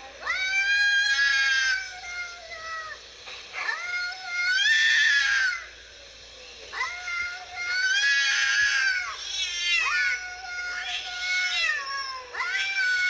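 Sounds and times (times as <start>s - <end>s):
cats yowling: 0.2s - 3.0s, 3.6s - 5.7s, 6.8s - 13.0s.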